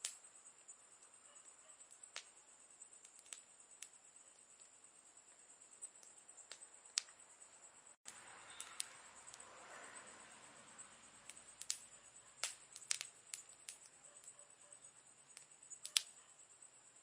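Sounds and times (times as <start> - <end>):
campfire crackling and snapping: 0.0 - 7.3, 8.0 - 14.4, 15.1 - 16.3.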